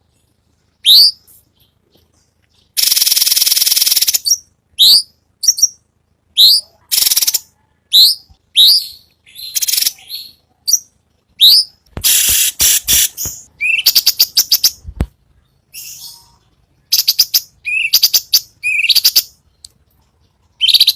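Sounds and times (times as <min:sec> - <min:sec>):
bird singing with trills: 0:00.8 - 0:14.8, 0:15.4 - 0:19.7, 0:20.4 - 0:20.9.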